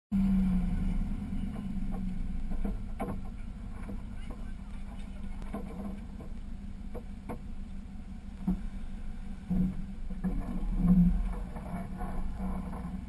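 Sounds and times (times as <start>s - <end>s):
off-road vehicle engine running: 0.1s - 13.0s.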